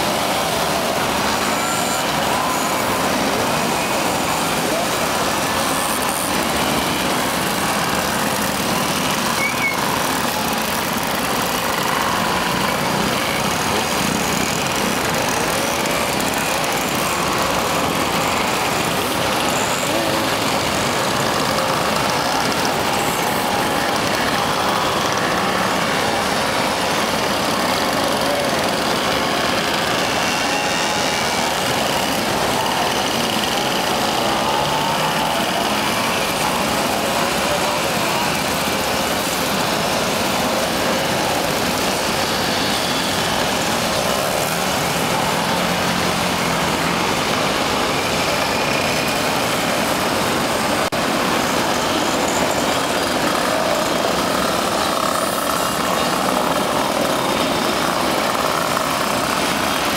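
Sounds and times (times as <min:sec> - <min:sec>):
moped engines passing: 0:00.0 - 0:59.9.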